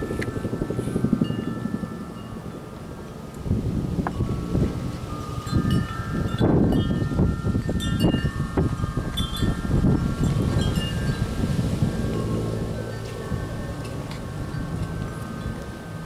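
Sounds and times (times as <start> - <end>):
metal wind chimes ringing: 0.0 - 16.0
wind buffeting microphone: 0.0 - 16.0.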